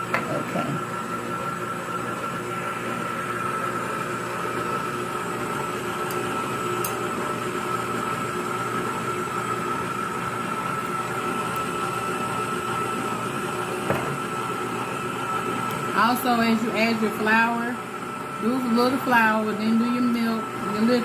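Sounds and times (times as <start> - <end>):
electric mixer humming: 0.0 - 21.0.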